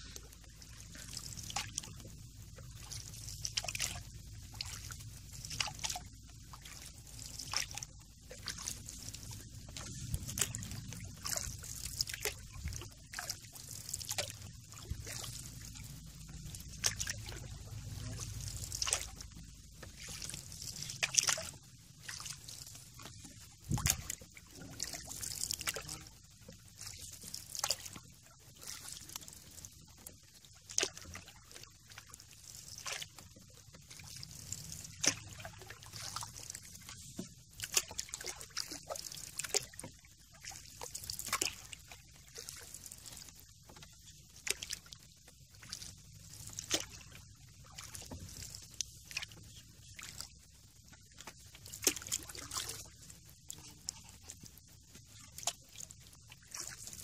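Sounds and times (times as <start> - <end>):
canoe paddle strokes: 0.0 - 57.0
light rain on water: 0.0 - 57.0
water sloshing and trickling: 0.0 - 57.0.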